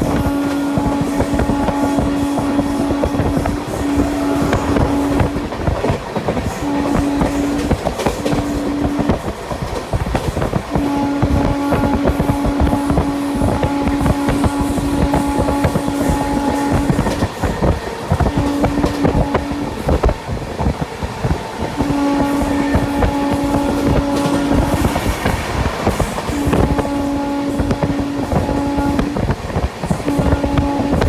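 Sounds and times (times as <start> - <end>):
train wheels clattering on track: 0.0 - 31.0.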